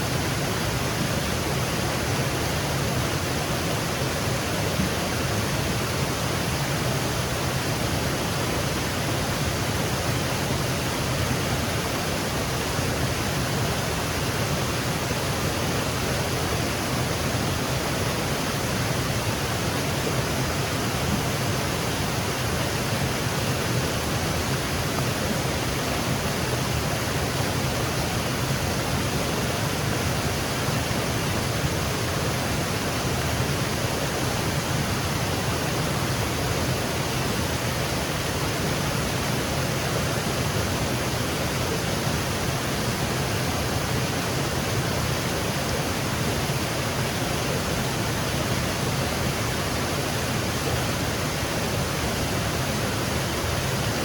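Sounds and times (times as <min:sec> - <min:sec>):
waterfall over rocks: 0:00.0 - 0:54.0.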